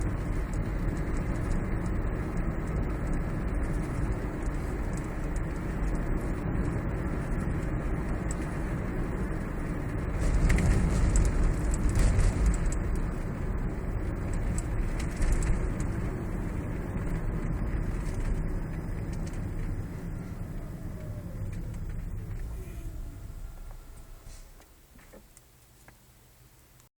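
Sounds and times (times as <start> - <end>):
faint irregular ticks: 0.0 - 26.0
road rumble inside car: 0.0 - 26.8.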